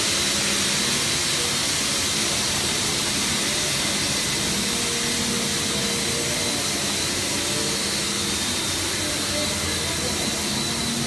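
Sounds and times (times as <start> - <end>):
machine running with high whine: 0.0 - 11.0.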